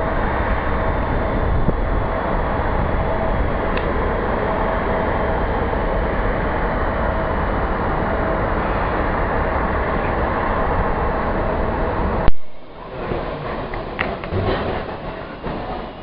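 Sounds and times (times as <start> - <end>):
faint steady whine: 0.0 - 15.1
vehicle road noise: 0.0 - 15.7
rushing wind: 0.0 - 16.0.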